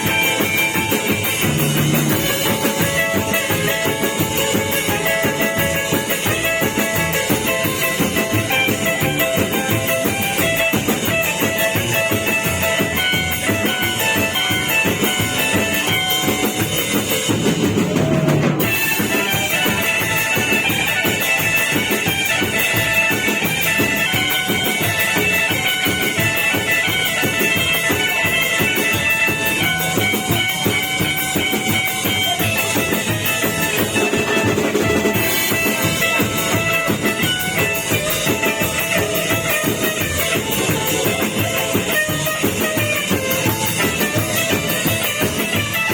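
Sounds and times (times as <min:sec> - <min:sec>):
rock band music: 0:00.0 - 0:45.9.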